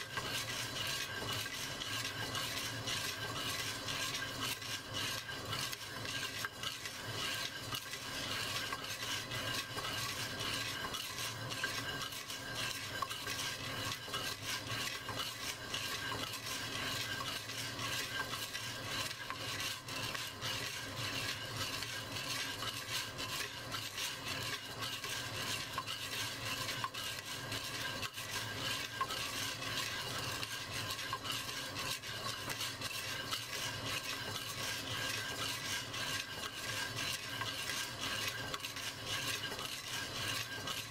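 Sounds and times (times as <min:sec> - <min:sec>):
coffee beans rattling in a clay pot: 0:00.0 - 0:40.9.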